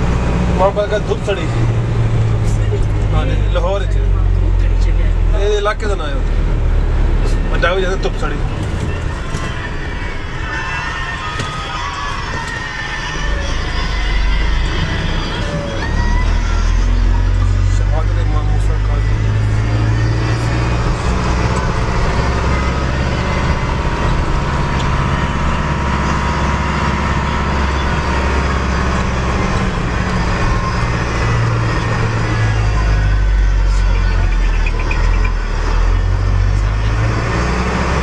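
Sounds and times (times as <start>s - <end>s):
car engine drone and tyre noise: 0.0s - 38.0s.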